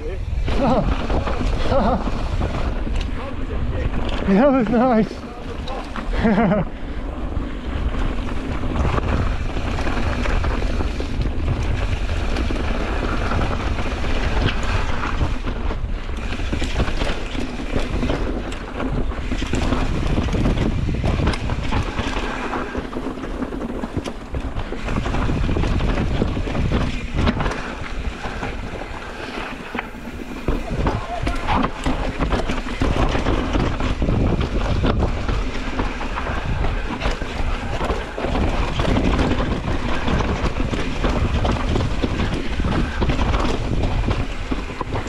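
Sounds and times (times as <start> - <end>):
bike knocks and rattles: 0.0 - 45.0
tyres rolling on dirt: 0.0 - 45.0
wind buffeting microphone: 0.0 - 45.0.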